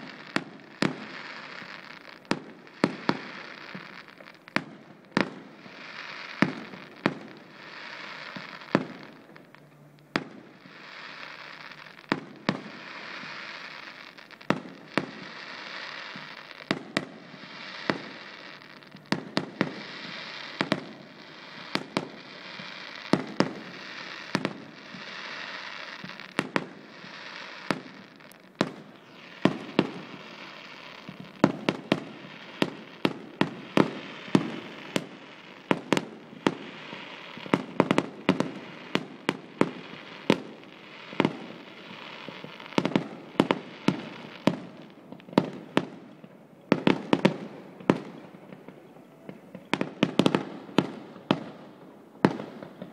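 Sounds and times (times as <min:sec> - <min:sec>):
fireworks crackling hiss: 0:00.0 - 0:52.9.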